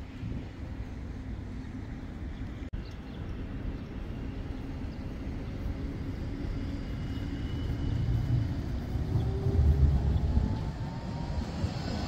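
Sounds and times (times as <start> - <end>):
tram low rumble: 0.0 - 12.0.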